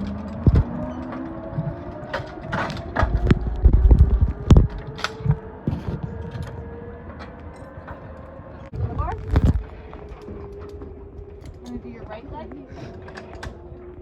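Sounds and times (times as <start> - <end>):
harness gear clicking: 0.0 - 14.0
low rumble: 0.0 - 14.0.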